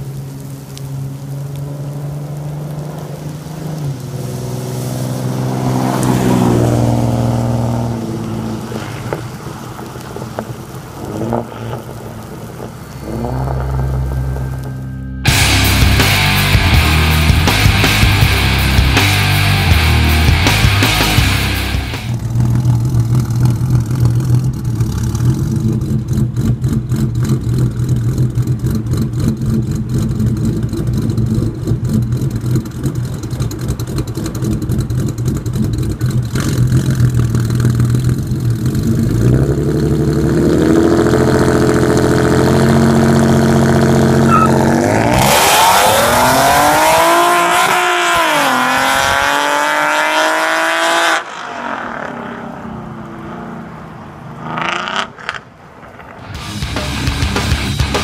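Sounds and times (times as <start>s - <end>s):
car engine revving and accelerating: 0.9s - 58.0s.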